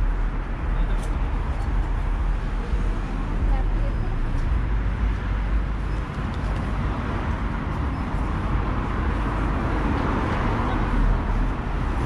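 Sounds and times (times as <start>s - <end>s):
road traffic with low rumble: 0.0s - 12.0s.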